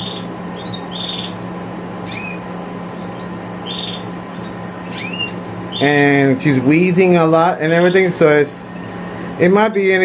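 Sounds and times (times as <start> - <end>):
canaries chirping: 0.0 - 9.6
steady background hum: 0.0 - 10.0.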